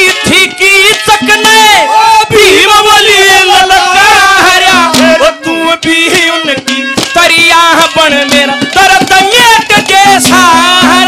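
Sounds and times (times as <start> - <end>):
folk accompaniment: 0.0 - 11.0
man singing through pa: 0.0 - 11.0.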